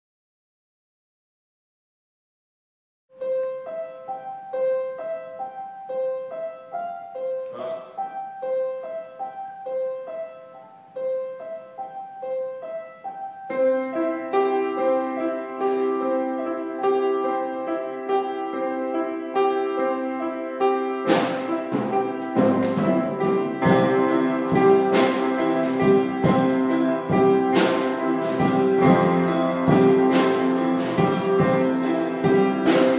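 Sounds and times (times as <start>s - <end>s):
piano playing: 3.1s - 32.9s.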